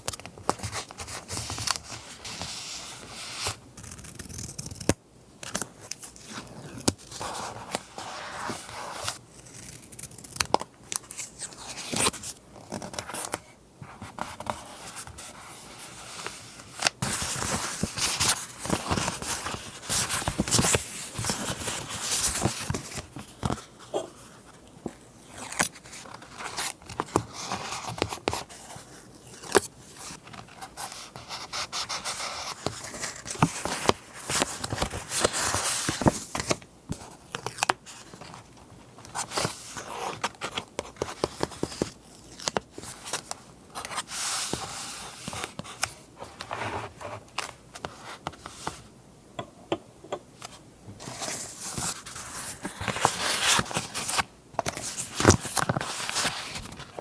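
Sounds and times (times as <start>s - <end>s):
paper rustling and crinkling: 0.0s - 48.9s, 50.4s - 57.0s.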